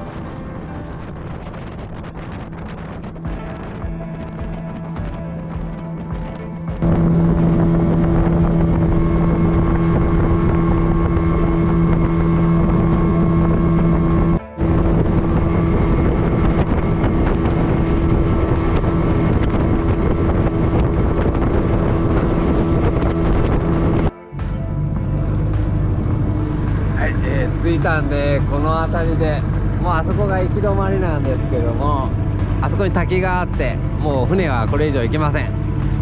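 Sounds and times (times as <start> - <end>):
boat engine running: 0.0 - 36.0
wind buffeting microphone: 0.0 - 36.0.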